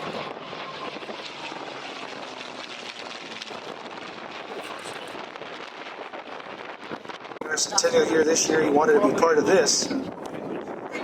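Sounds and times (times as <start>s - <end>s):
propeller aircraft engines flying past: 0.0s - 11.0s.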